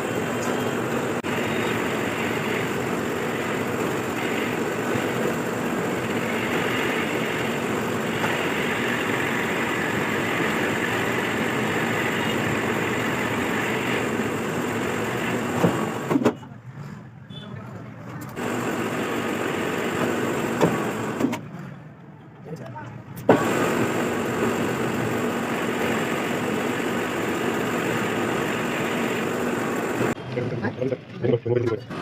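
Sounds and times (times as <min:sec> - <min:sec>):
metal lathe running: 0:00.0 - 0:16.2, 0:18.4 - 0:21.2, 0:23.3 - 0:30.2.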